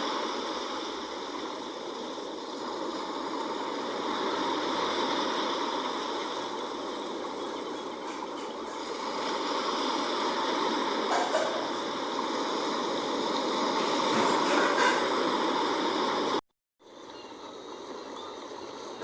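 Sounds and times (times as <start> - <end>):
sea water washing: 0.0 - 19.0.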